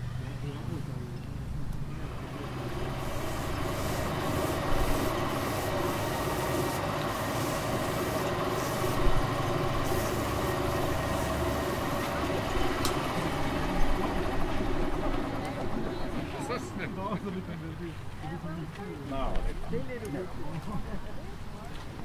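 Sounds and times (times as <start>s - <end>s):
machinery rumble and hiss: 0.0s - 18.2s.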